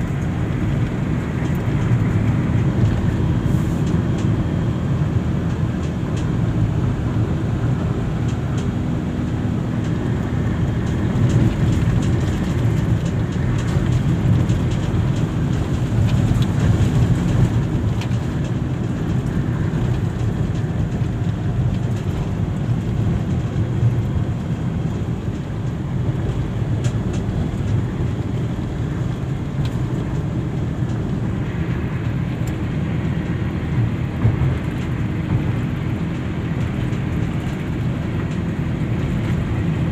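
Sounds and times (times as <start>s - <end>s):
road vehicle rumble: 0.0s - 39.9s.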